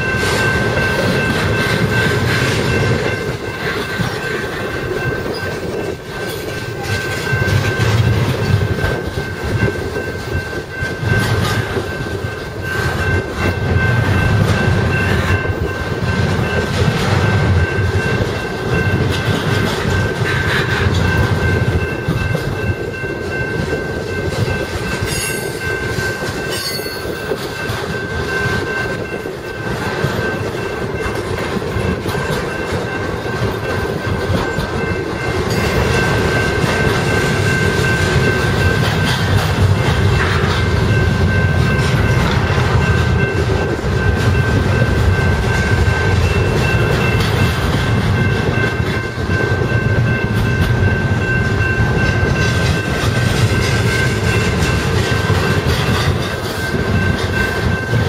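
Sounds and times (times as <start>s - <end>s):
train wheels rumbling and clacking: 0.0s - 58.0s.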